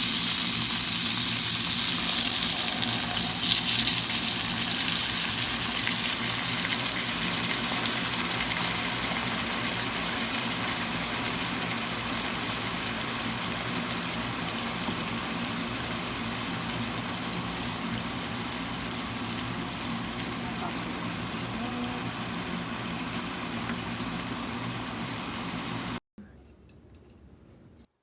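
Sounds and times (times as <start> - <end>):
dumplings sizzling in a pan: 0.0 - 26.0.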